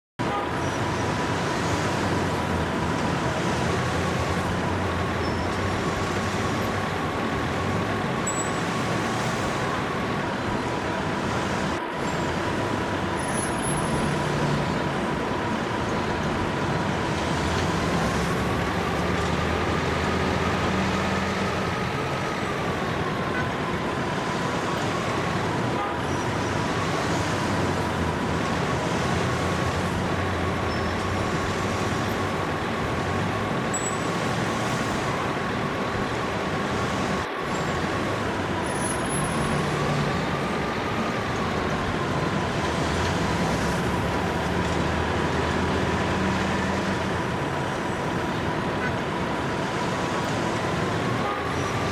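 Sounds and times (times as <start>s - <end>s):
heavy vehicle engine running: 0.2s - 51.9s.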